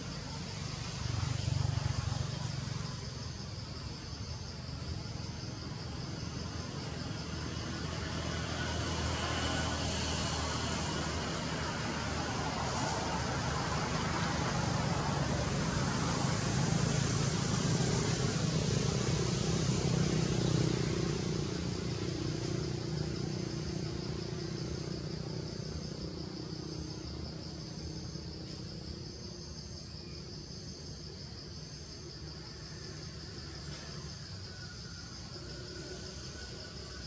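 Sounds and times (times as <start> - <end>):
vehicle engine rumbling past: 0.0 - 37.0.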